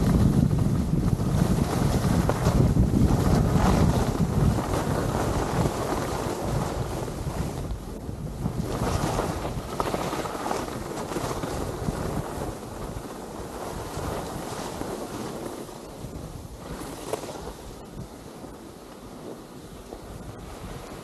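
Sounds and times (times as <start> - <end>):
skis sliding on snow: 0.0 - 21.0
wind on camera microphone: 0.0 - 21.0.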